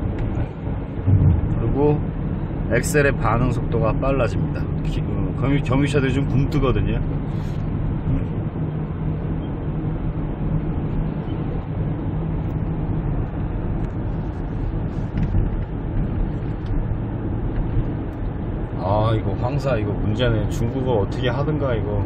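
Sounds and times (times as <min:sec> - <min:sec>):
tyre and road noise: 0:00.0 - 0:20.4
car engine drone: 0:00.0 - 0:22.0.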